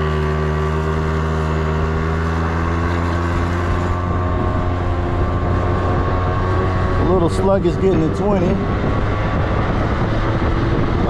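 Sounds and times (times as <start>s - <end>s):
scooter engine accelerating: 0.0s - 11.0s.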